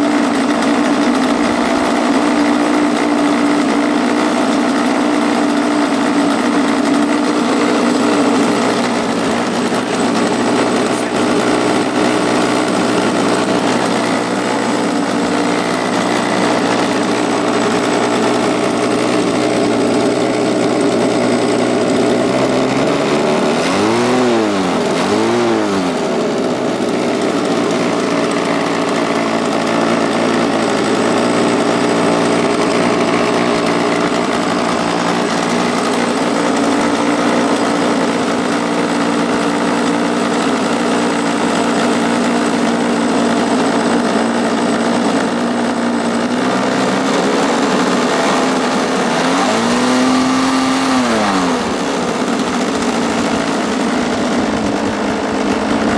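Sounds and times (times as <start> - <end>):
engine throttle blips: 0.0 - 55.9
two-stroke engine running: 0.0 - 55.9.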